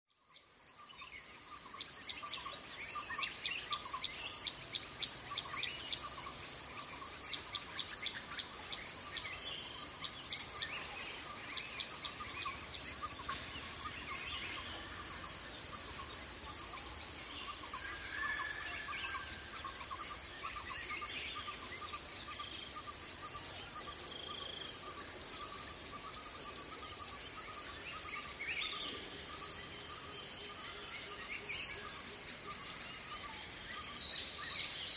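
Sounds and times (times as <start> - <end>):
insects buzzing: 0.2 - 34.9.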